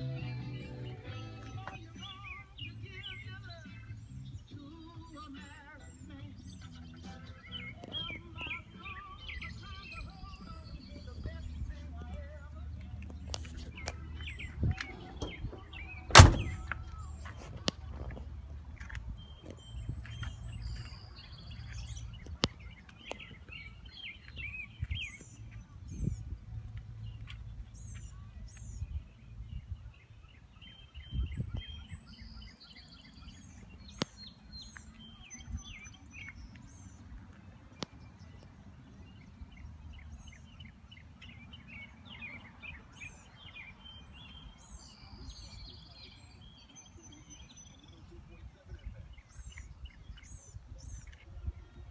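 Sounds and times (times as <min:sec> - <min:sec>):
small birds chirping and trilling: 0:01.0 - 0:51.9.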